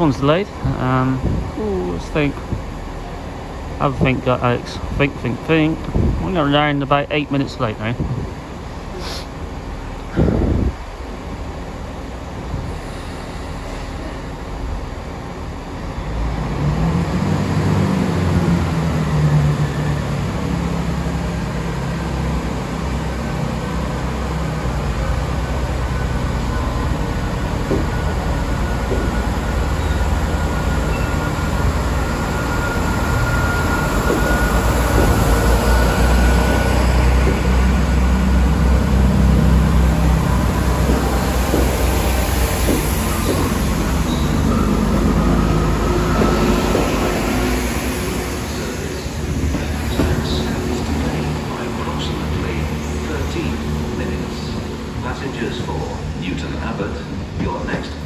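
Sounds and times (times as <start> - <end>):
diesel train passing: 0.0 - 58.0.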